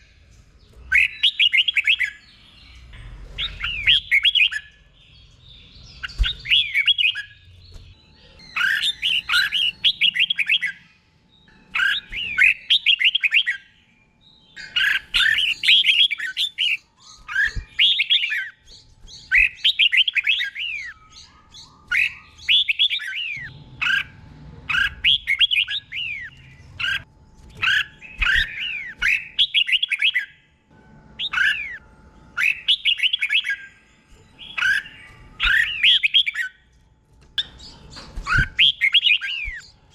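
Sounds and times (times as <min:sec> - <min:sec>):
bird warbled whistling song: 0:00.8 - 0:02.5, 0:03.4 - 0:04.8, 0:05.7 - 0:10.9, 0:11.7 - 0:30.5, 0:32.4 - 0:36.6, 0:37.4 - 0:39.9.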